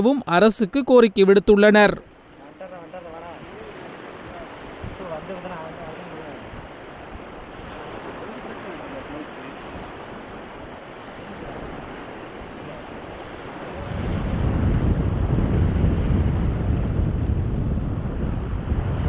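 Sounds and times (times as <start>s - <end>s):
surf: 0.0s - 19.0s
wind: 0.0s - 19.0s
wind buffeting microphone: 3.4s - 19.0s.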